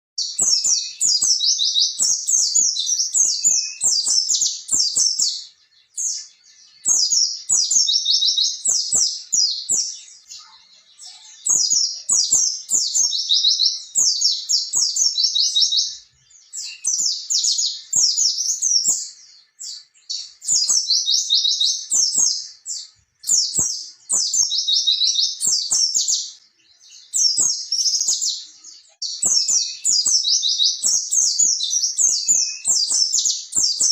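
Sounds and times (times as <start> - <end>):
bird singing warbling trills: 0.2 - 33.9.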